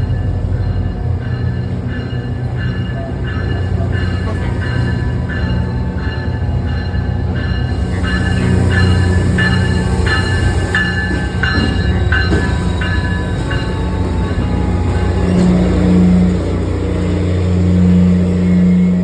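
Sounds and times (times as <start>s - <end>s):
train diesel engine rumble: 0.0s - 19.0s.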